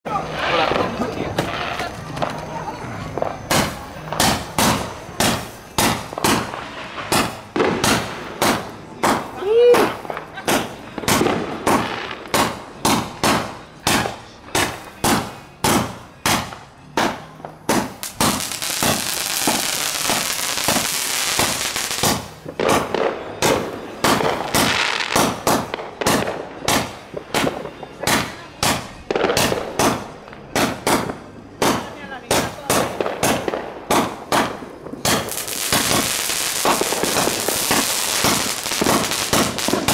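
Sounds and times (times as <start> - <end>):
dense firework crackling: 0.1 - 39.9
firework cake shots: 0.1 - 39.9.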